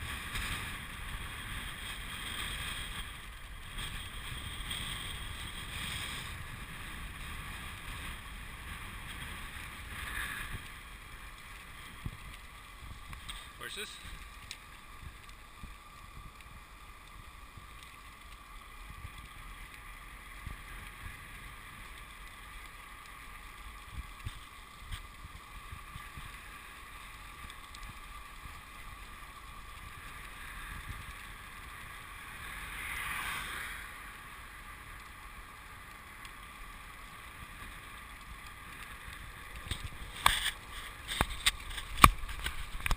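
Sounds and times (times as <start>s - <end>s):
wind and tyre noise: 0.0s - 42.9s.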